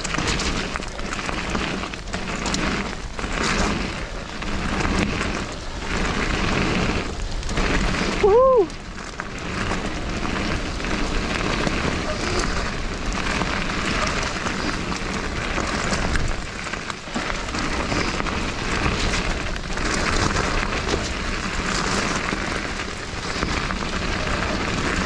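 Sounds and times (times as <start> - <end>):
bike rattling: 0.0 - 25.0
tyres rushing over dirt: 0.0 - 25.0
wind on microphone: 0.0 - 25.0.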